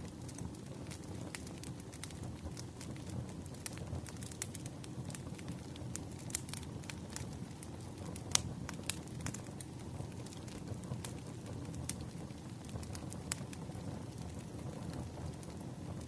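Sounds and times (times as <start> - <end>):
firewood crackling and popping: 0.0 - 16.0
low steady fire rumble: 0.0 - 16.0.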